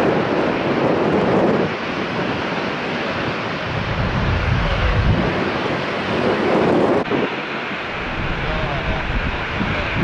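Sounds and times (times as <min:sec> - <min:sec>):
jet engines at takeoff: 0:00.0 - 0:10.0.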